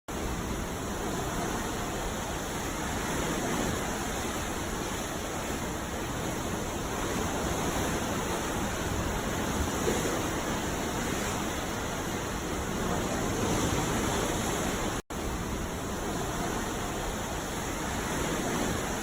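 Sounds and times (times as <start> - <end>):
sea waves rushing: 0.1 - 19.0.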